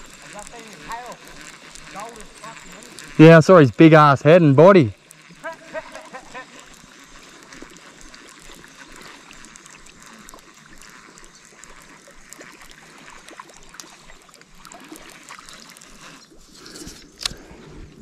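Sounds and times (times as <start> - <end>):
river water running: 0.0 - 18.0
small clicks: 0.0 - 18.0.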